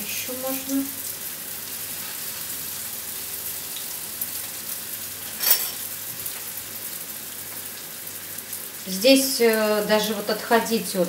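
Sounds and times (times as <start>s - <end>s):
bread sizzling in oil: 0.0s - 11.0s.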